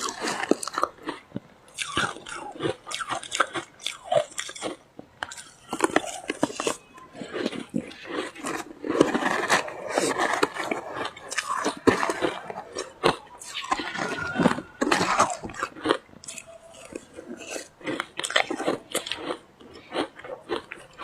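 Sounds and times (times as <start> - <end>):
chewing and crunching ice: 0.0 - 21.0.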